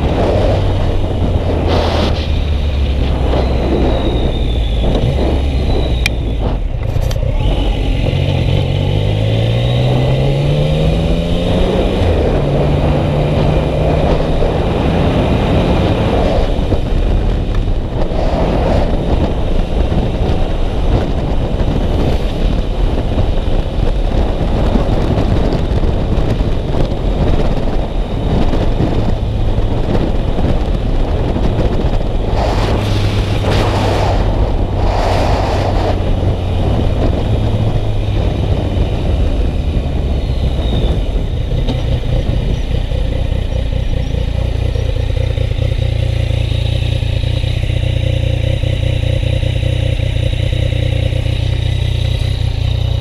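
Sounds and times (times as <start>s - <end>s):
wind noise: 0.0s - 46.4s
motorcycle engine accelerating: 0.0s - 53.0s.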